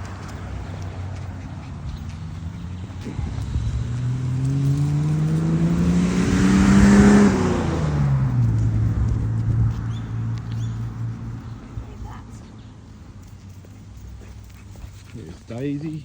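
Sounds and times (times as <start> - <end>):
car engine driving past: 0.0 - 13.7
tyre noise: 0.0 - 16.0.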